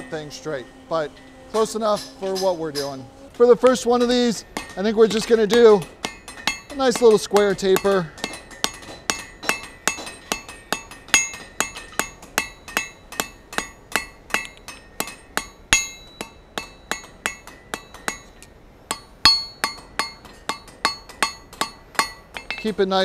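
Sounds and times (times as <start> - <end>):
hammer striking hot steel on anvil: 0.0 - 23.0.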